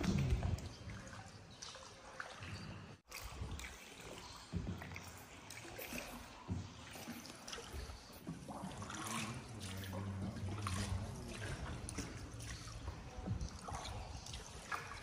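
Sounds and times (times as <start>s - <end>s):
short splashes or drips: 0.0s - 15.0s
water splashing and trickling: 0.0s - 15.0s.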